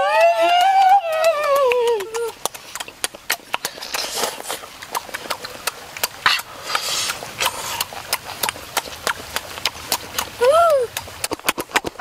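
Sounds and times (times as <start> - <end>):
person chewing wetly: 0.0 - 12.0
lip smacks and mouth clicks: 0.2 - 12.0
sucking slurp: 1.9 - 12.0.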